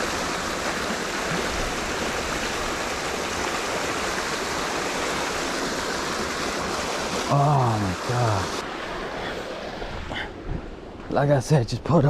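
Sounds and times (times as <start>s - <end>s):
creek water rushing: 0.0s - 11.6s.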